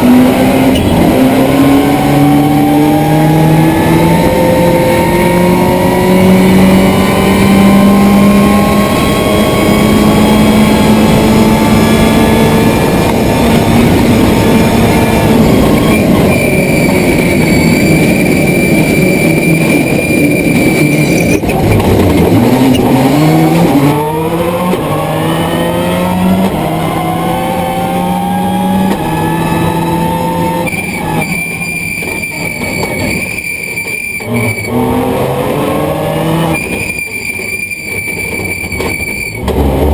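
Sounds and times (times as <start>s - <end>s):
high whine: 0.0s - 39.7s
rally car engine revving: 0.0s - 39.9s.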